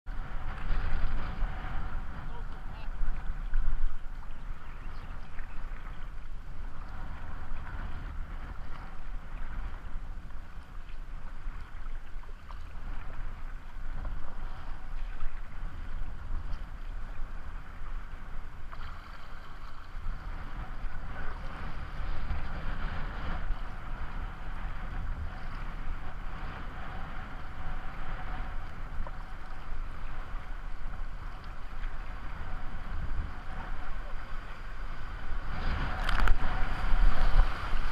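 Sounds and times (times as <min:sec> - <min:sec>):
wind rumbling on microphone: 0:00.0 - 0:37.9.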